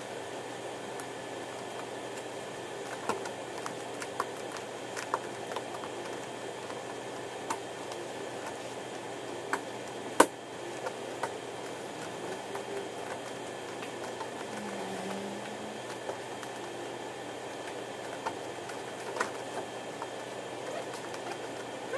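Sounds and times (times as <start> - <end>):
room noise hum: 0.0 - 21.9.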